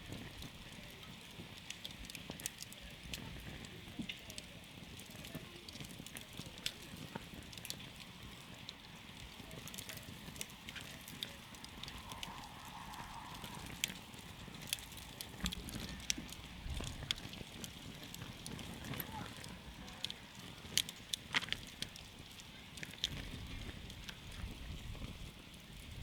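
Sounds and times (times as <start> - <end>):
campfire pops and snaps: 0.0 - 26.0
low rumble of flames: 0.0 - 26.0.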